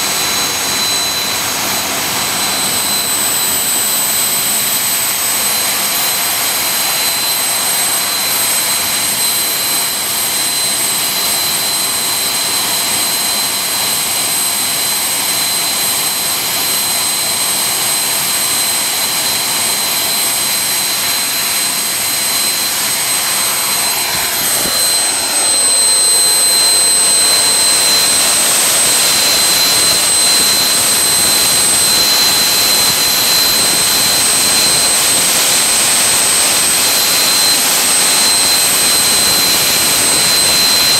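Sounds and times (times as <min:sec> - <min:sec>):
jet engine roaring with whistling: 0:00.0 - 0:40.9.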